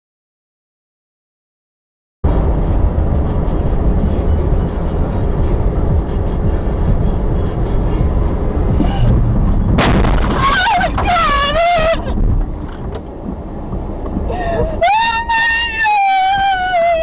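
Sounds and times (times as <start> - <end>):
vehicle rumble: 2.2 - 17.0.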